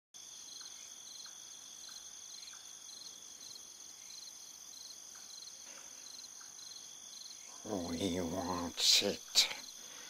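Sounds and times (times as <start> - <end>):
crickets chirping: 0.2 - 10.0.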